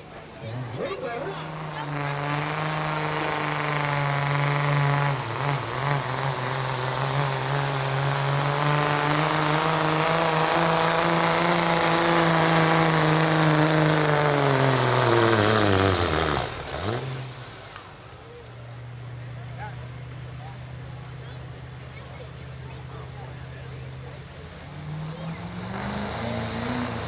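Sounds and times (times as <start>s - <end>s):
diesel truck engine at full throttle: 0.0s - 27.0s.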